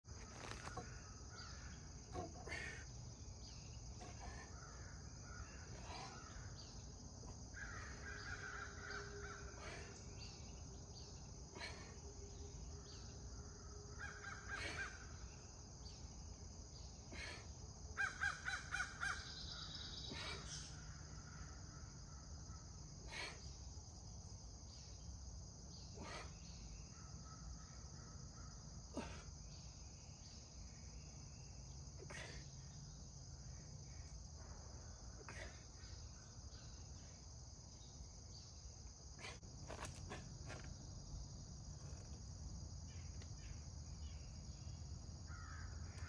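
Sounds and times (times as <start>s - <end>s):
birds calling: 0.1s - 42.2s, 42.8s - 46.0s.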